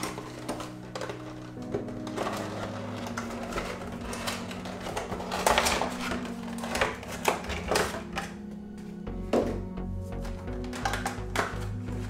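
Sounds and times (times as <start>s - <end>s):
plastic tray crackling: 0.0s - 9.0s, 10.2s - 12.0s
background music low notes: 0.0s - 12.0s.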